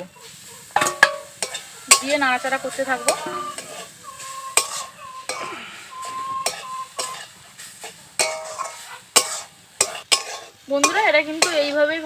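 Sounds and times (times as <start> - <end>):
faint sizzle: 0.0 - 12.0
spatula scraping a pan: 0.0 - 12.0.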